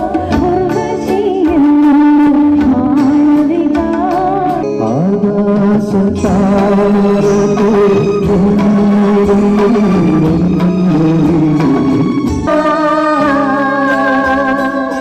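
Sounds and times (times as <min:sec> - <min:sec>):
woman singing into a microphone: 0:00.0 - 0:08.7, 0:09.3 - 0:15.0
live instrumental accompaniment: 0:00.0 - 0:15.0
percussion: 0:00.0 - 0:15.0.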